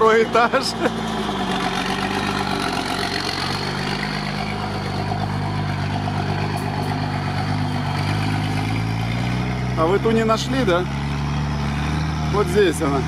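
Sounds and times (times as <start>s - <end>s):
truck diesel engine at low revs: 0.0s - 13.0s.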